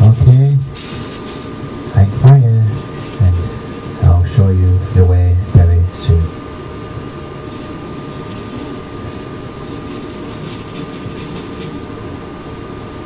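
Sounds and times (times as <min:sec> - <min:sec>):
mechanical hum and hiss: 0:00.0 - 0:13.0.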